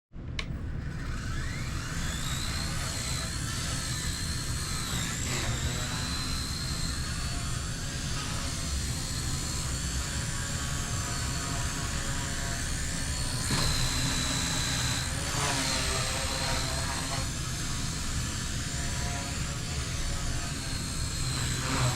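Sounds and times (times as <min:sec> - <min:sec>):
rotor whoosh: 0:00.5 - 0:21.9
toy helicopter motor whine: 0:00.5 - 0:21.9.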